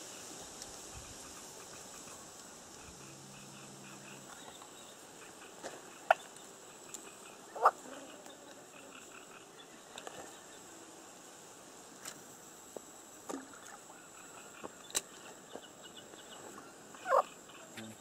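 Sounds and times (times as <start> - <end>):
faint high hiss: 0.0 - 18.0.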